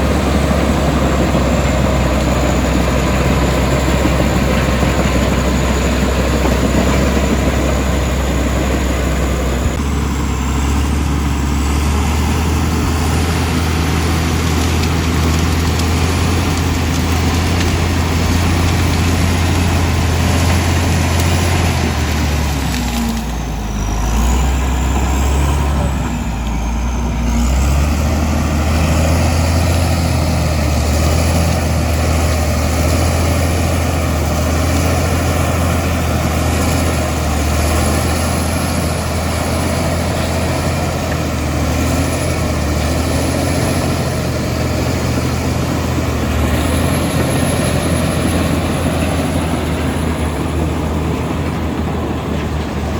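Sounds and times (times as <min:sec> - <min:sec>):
bulldozer diesel engine under load: 0:00.0 - 0:52.9.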